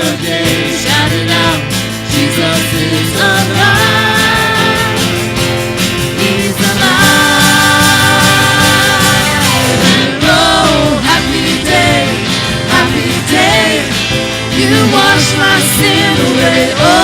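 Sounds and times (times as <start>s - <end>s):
worship band with singers: 0.0s - 17.0s.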